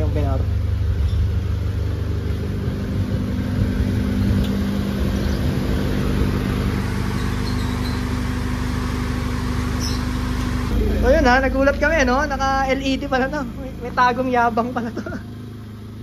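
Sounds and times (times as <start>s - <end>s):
car engine idling: 0.0s - 16.0s
electric cooling fan running: 0.0s - 16.0s.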